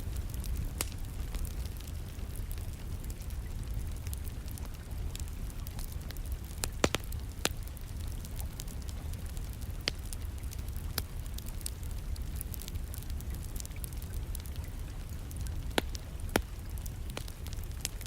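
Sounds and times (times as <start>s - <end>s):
rain: 0.0s - 18.0s
wood fire crackling: 0.0s - 18.0s.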